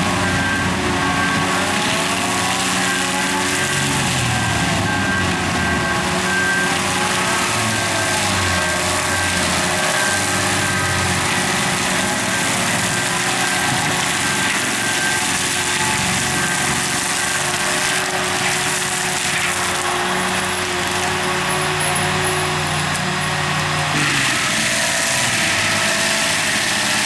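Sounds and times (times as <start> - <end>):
engine drone: 0.0 - 27.0
mulcher grinding wood: 0.0 - 27.0.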